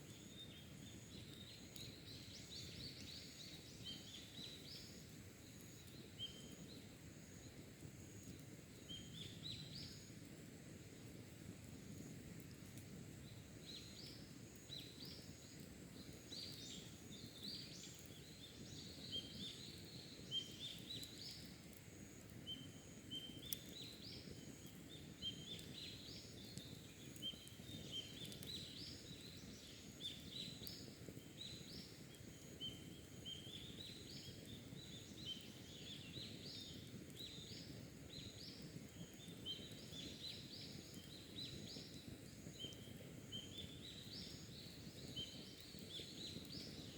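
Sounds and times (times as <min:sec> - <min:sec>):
faint low background hiss: 0:00.0 - 0:46.9.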